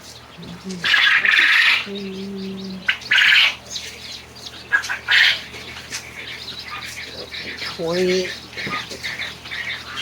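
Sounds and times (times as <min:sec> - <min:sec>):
chicks cheeping: 0:00.0 - 0:10.0.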